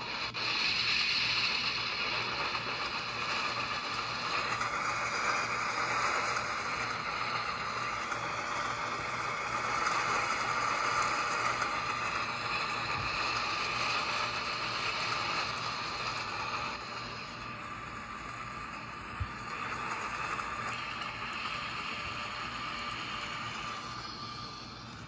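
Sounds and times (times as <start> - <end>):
train car running on track: 0.0 - 25.0.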